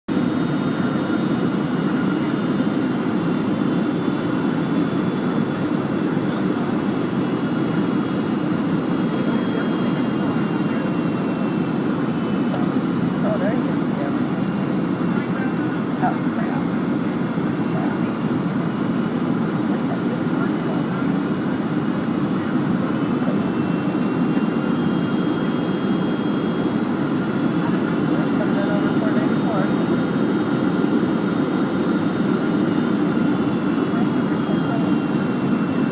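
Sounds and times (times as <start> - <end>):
airliner cabin engine rumble: 0.1 - 35.9.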